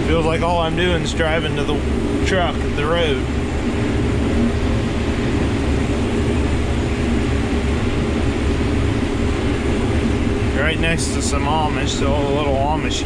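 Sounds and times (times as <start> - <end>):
combine harvester droning: 0.0 - 13.0
hiss of threshing and fan: 0.0 - 13.0.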